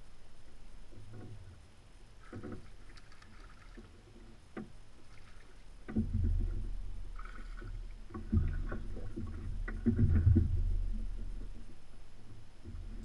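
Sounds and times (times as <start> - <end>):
low rumble of water and boat: 0.0 - 13.0.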